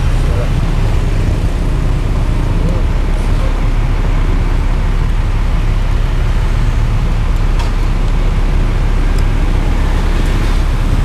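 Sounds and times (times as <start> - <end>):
constant hum: 0.0 - 11.0
street traffic rumble: 0.0 - 11.0.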